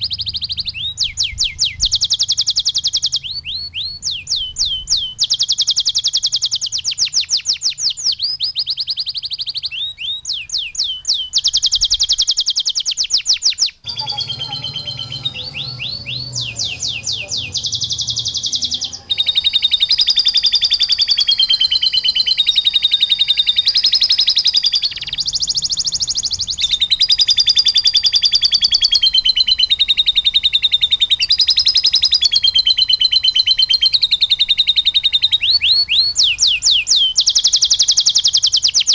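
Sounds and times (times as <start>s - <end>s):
canary trilling: 0.0s - 38.9s
lovebird calls: 0.0s - 38.9s.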